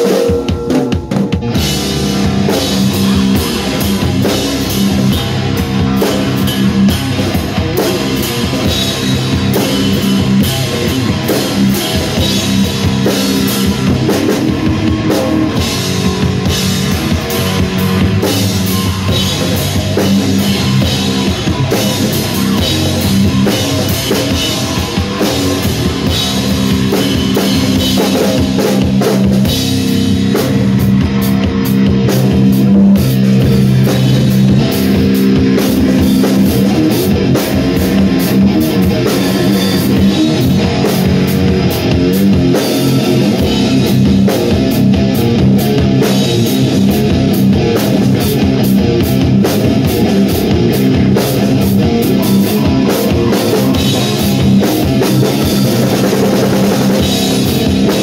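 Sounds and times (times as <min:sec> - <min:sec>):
drum and cymbal hits: 0:00.0 - 0:58.0
electric guitar chords and riffs: 0:00.0 - 0:58.0.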